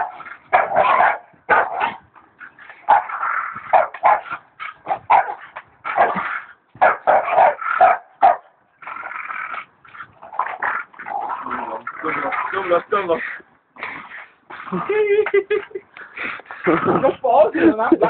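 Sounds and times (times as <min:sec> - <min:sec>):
dogs barking and yelping: 0:00.0 - 0:17.1.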